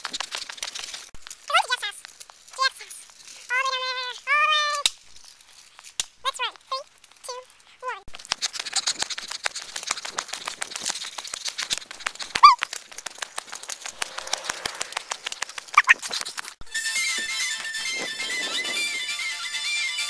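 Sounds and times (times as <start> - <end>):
crackling and scraping clicks: 0.0 - 18.9.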